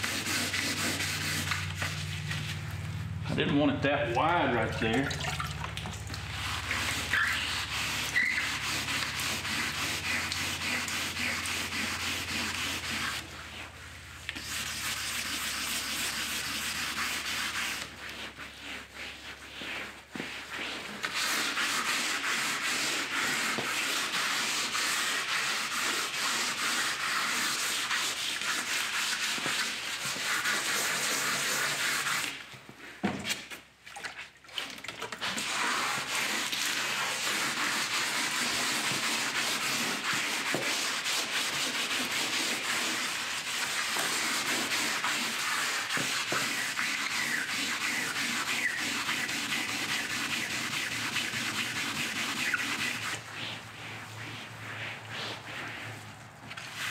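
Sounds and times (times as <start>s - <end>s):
abrasive pad scrubbing metal: 0.0s - 32.3s, 35.3s - 56.9s.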